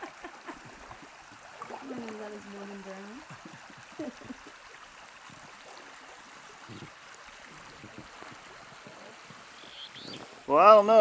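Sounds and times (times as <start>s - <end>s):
river water running: 0.0s - 11.0s.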